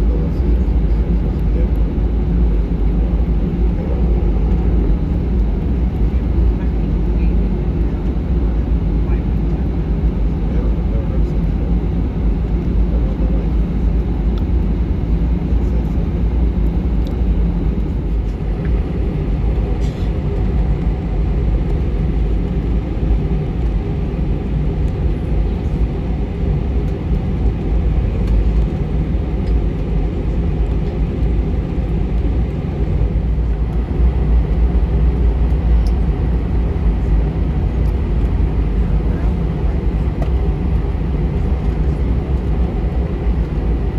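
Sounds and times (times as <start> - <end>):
jet engines in aircraft cabin: 0.0 - 43.9.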